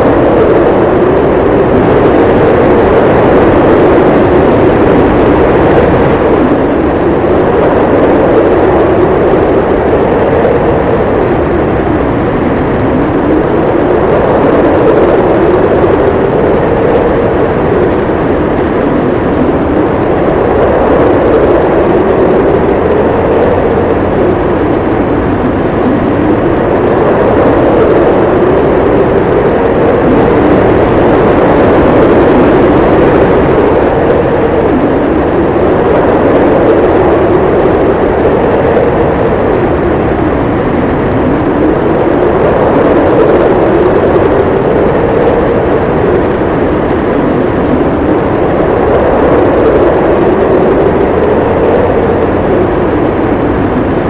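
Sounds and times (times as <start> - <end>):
snowstorm wind howling: 0.0 - 54.0.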